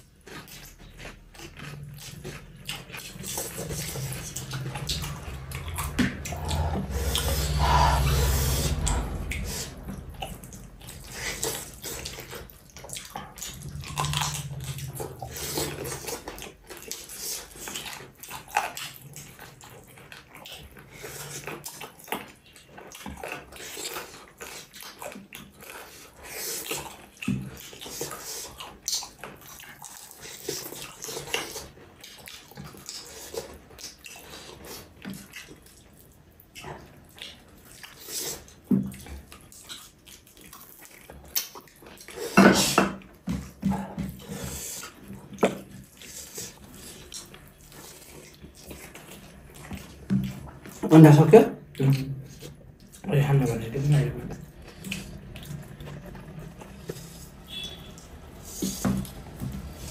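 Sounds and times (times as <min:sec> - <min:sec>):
person chewing and lip-smacking: 0:00.0 - 0:59.9.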